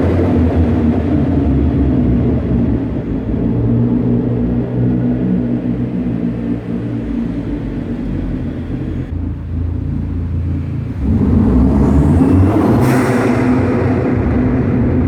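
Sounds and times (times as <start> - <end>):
car engine and exhaust droning: 0.0 - 15.0.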